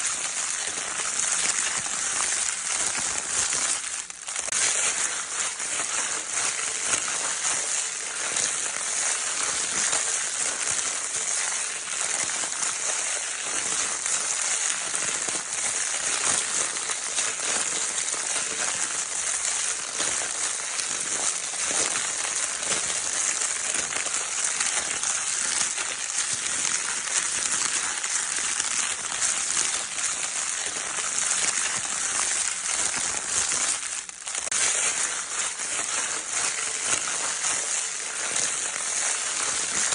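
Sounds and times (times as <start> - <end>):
crinkle paper toy crumpled: 0.0 - 39.9.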